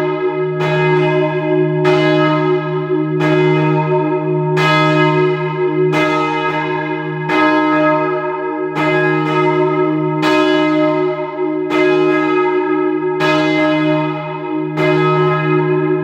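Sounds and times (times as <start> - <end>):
heavy church bells ringing: 0.0 - 16.0.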